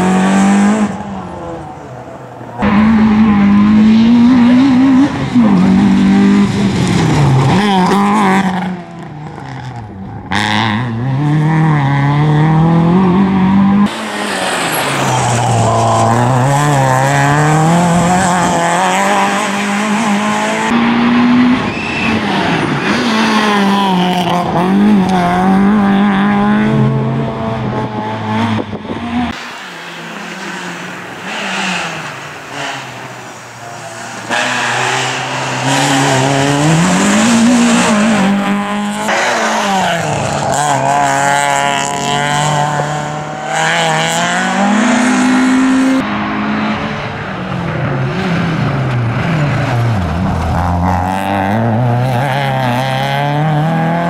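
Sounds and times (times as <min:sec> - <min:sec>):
rally car engine revving hard: 0:00.0 - 0:01.2, 0:02.6 - 0:29.4, 0:34.1 - 0:54.0.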